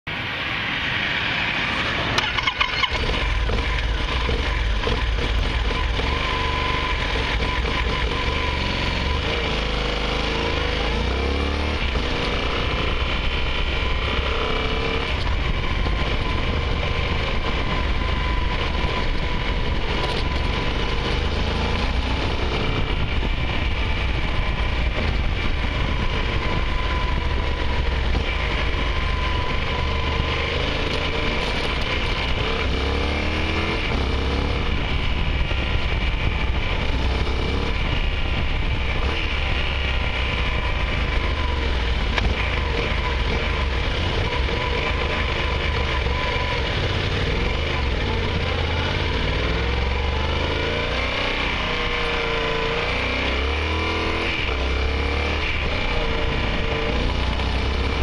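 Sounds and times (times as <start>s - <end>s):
wind and road noise: 0.0s - 58.0s
motorcycle engine revving: 1.7s - 58.0s.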